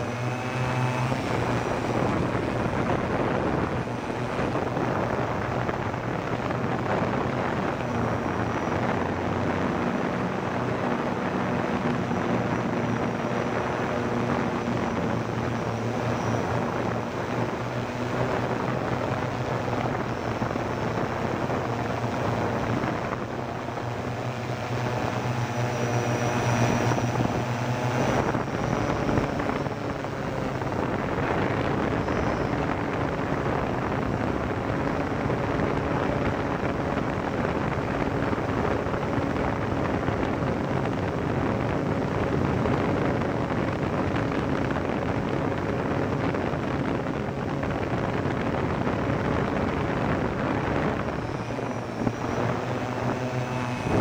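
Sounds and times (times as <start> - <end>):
quadcopter propellers whirring: 0.0 - 54.0
wind noise: 0.0 - 54.0.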